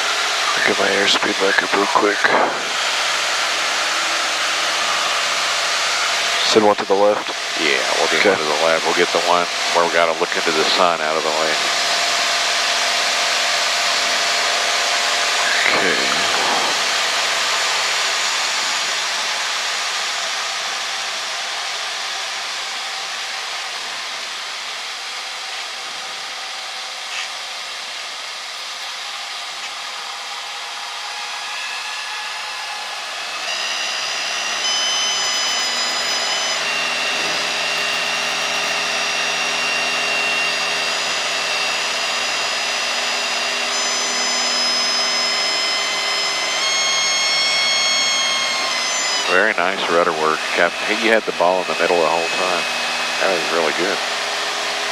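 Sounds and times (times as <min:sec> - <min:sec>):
whining tones stepping up in pitch: 0:00.0 - 0:21.1, 0:30.3 - 0:54.9
aircraft engine: 0:00.0 - 0:54.9.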